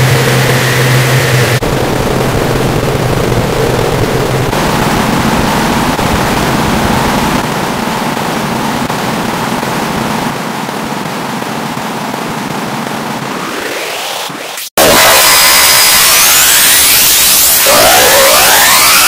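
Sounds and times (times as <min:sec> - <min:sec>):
harsh distorted noise: 0:00.0 - 0:19.0.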